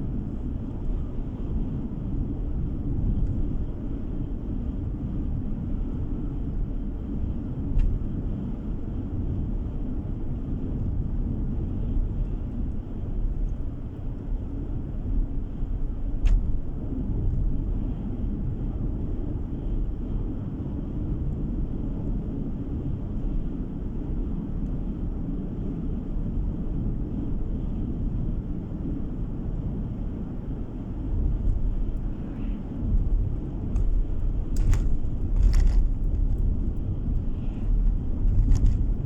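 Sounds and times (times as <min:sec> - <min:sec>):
car tyre and engine rumble: 0:00.0 - 0:39.0.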